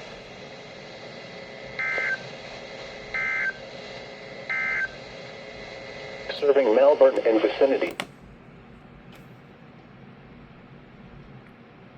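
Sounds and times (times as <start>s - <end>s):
faint radio hiss: 0.0s - 11.9s.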